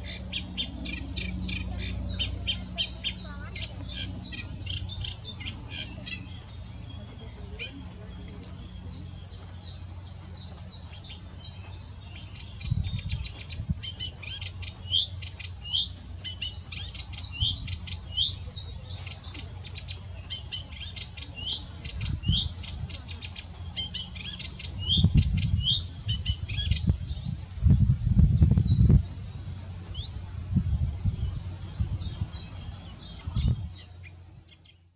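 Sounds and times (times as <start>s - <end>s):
warbler singing: 0.0s - 34.9s.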